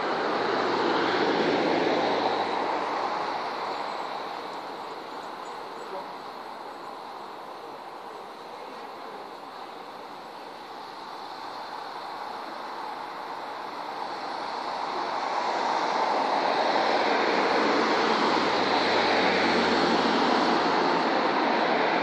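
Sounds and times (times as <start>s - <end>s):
car approaching: 0.0s - 22.0s.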